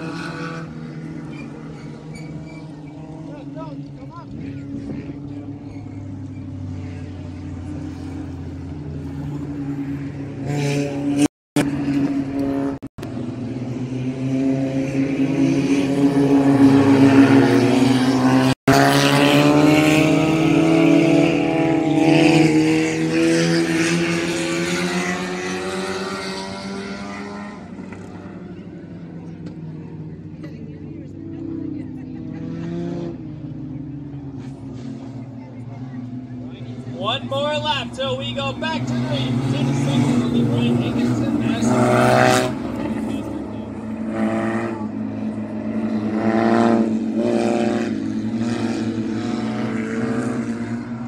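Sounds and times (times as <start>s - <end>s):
race cars passing: 0.0s - 51.0s.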